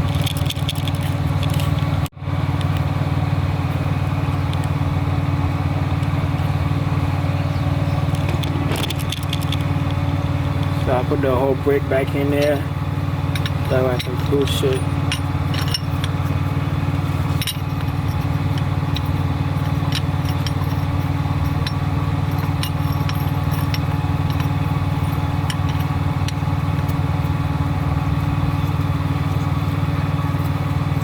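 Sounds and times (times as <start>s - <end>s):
engine idling drone: 0.0s - 31.0s.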